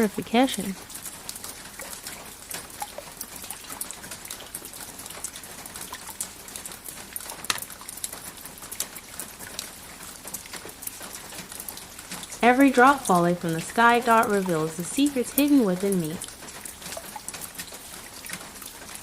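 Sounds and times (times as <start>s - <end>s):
rain pattering on a surface: 0.0s - 19.0s.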